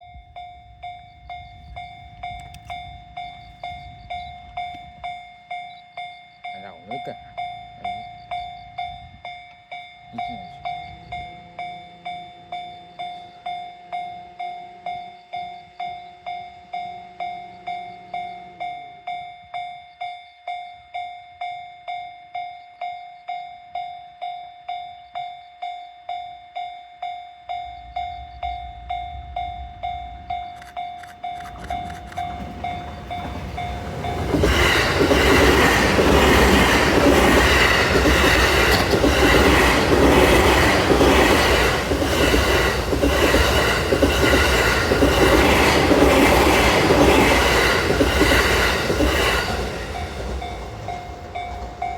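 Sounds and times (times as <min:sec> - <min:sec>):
train rumble: 0:00.0 - 0:19.2, 0:27.4 - 0:51.9
level-crossing warning bell: 0:00.0 - 0:51.9.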